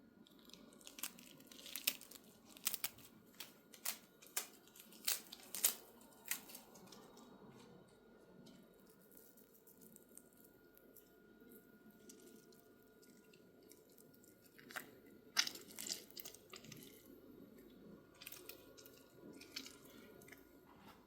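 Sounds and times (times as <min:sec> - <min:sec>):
faint room hum: 0:00.0 - 0:21.0.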